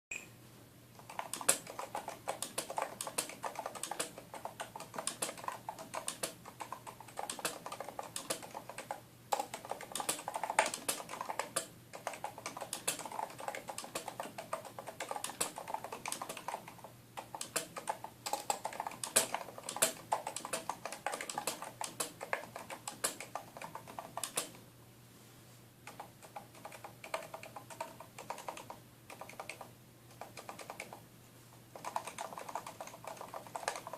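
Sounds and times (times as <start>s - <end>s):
keyboard typing: 1.0s - 24.6s, 25.8s - 31.0s, 31.7s - 33.9s.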